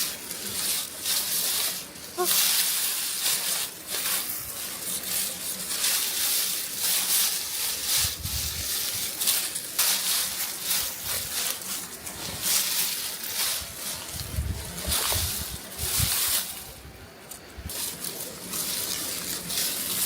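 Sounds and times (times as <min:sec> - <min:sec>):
dry stalks rustling: 0:00.0 - 0:20.0.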